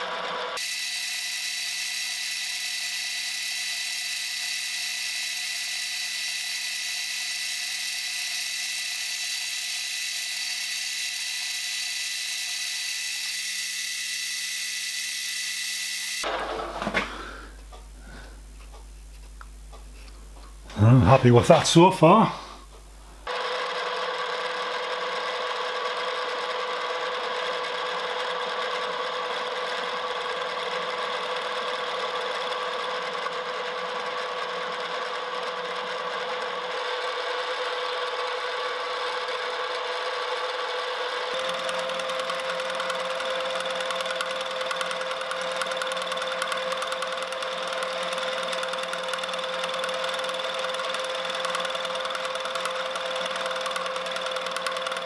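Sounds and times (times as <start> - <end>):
milling machine cutting metal: 0.0 - 16.7, 23.3 - 55.0
motor whine: 0.0 - 18.8, 23.2 - 55.0.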